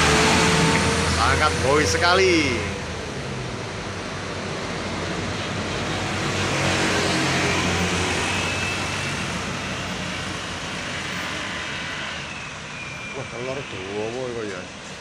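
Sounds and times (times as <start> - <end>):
truck engine hum: 0.0 - 13.7.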